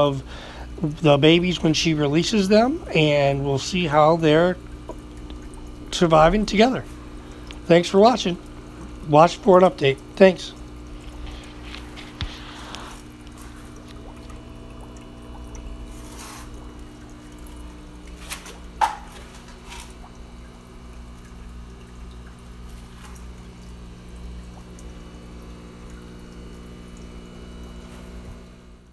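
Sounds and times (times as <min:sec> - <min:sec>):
aquarium filter bubbling: 0:00.0 - 0:28.9
low electrical hum: 0:00.0 - 0:28.9
water trickling: 0:00.0 - 0:28.9.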